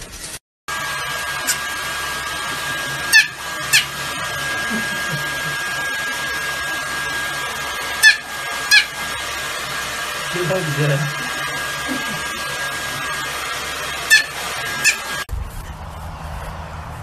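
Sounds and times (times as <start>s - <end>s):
hair dryer blowing with whine: 0.7s - 15.3s.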